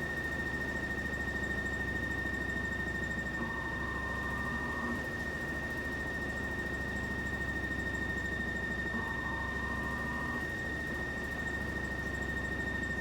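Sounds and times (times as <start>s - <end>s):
washing machine high-pitched whine: 0.1s - 13.0s.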